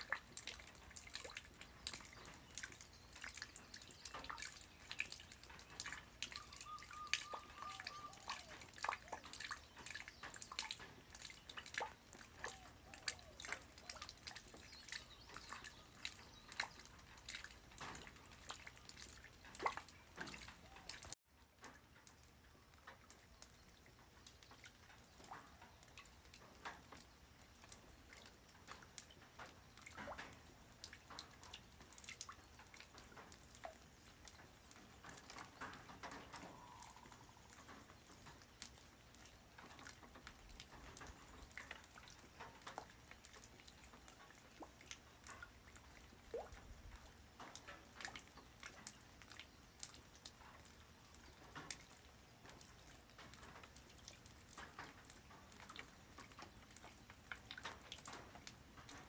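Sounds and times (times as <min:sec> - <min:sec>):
light rain dripping: 0:00.0 - 0:59.0.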